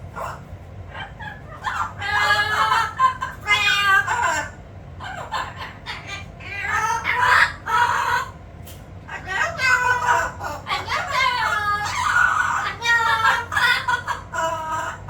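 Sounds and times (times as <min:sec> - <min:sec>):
parrot squawking: 0:00.0 - 0:08.4, 0:09.1 - 0:15.0
parrot calling: 0:00.0 - 0:15.0.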